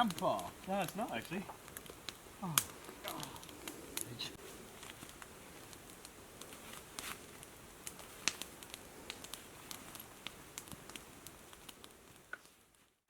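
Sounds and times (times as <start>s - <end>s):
crackling clicks and pops: 0.0s - 13.0s
low steady hiss: 0.0s - 13.0s.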